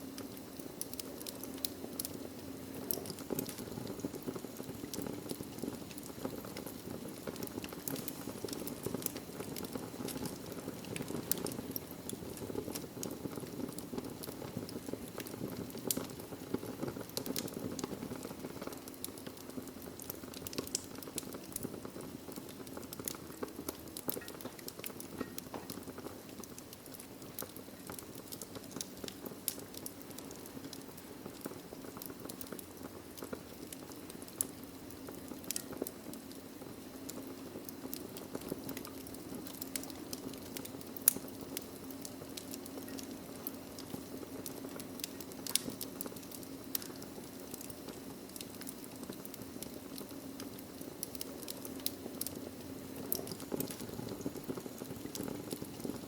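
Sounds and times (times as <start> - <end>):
fire crackling and popping: 0.0 - 56.0
low rush of flame: 0.0 - 56.0.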